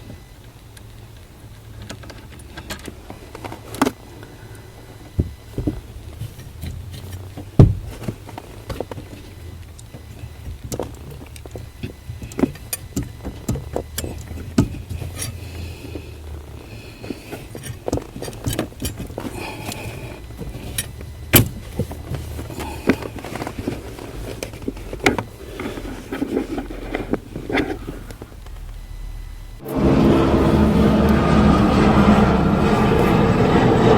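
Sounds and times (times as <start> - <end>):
low steady hum: 0.0 - 33.9.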